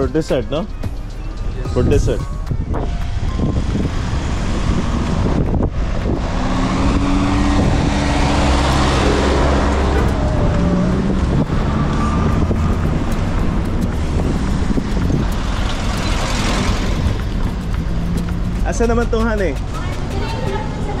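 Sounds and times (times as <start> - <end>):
car and truck engines: 0.0 - 21.0
tyre noise: 1.8 - 21.0.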